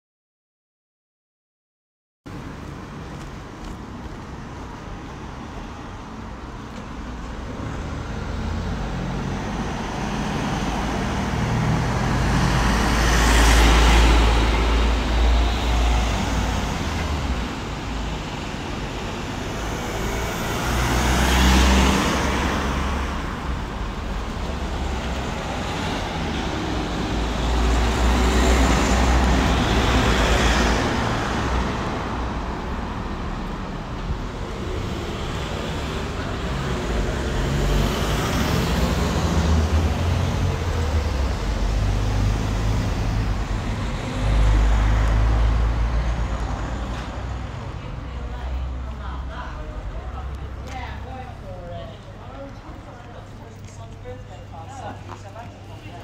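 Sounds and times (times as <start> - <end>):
background traffic noise: 2.3 - 56.0
vehicles passing close by: 2.3 - 56.0.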